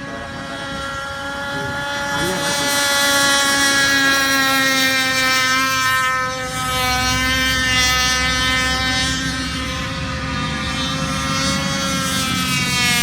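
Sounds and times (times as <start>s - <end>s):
model speedboat motor whining: 0.0s - 13.0s.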